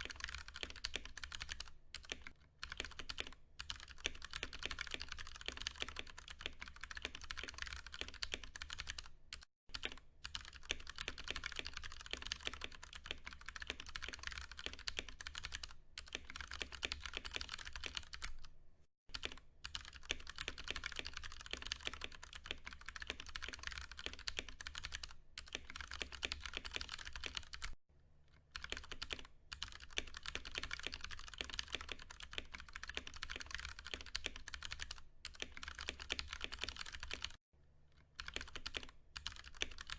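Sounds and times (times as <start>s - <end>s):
mechanical keyboard typing: 0.0s - 18.5s, 19.1s - 27.8s, 28.5s - 37.4s, 38.1s - 39.9s.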